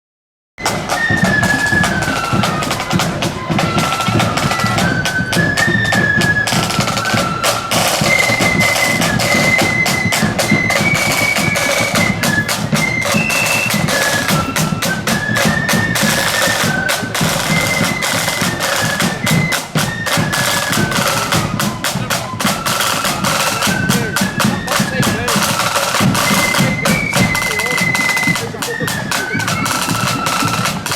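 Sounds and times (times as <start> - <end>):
flutes playing melody: 0.6 - 30.9
snare and bass drums beating: 0.6 - 30.9.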